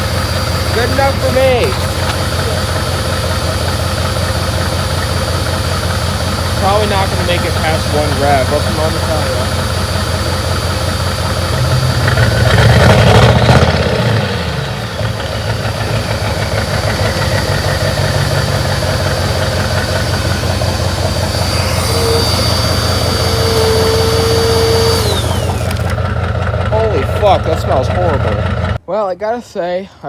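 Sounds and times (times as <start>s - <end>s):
diesel engine idling and revving: 0.0s - 28.8s
thin steady whine: 0.0s - 28.8s.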